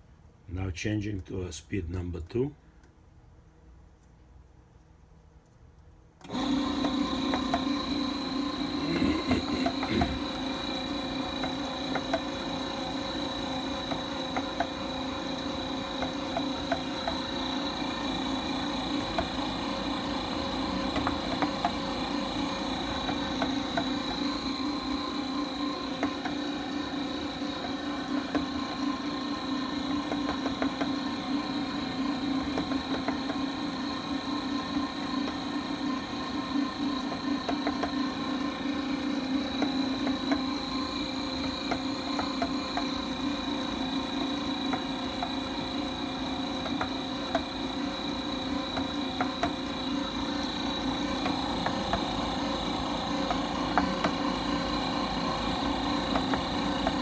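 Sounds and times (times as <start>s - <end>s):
dough mixer motor hum: 6.2s - 57.0s.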